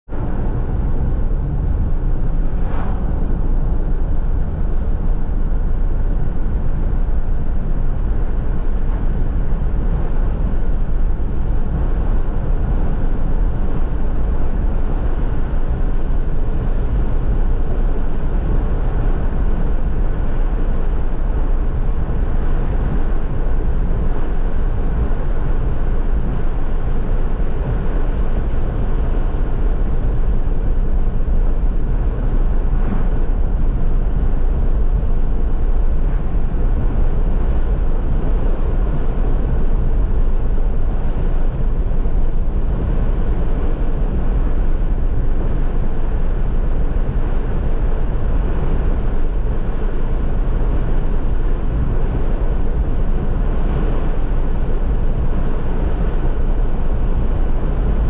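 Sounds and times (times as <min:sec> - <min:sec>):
car road noise from inside: 0:00.1 - 0:58.0.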